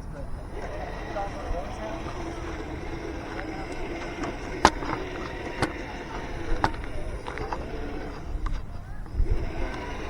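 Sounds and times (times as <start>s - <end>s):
electric motor whine: 0.0s - 10.0s.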